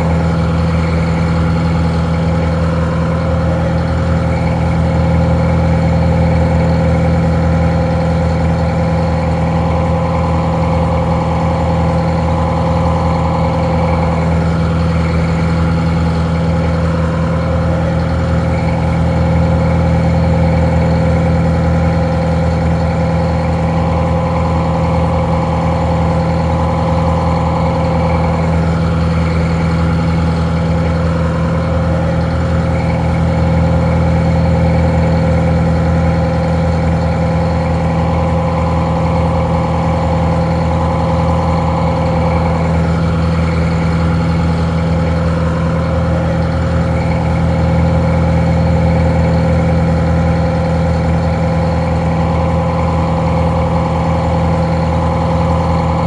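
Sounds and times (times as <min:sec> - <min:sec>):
muffled diesel engine idling: 0:00.0 - 0:56.0.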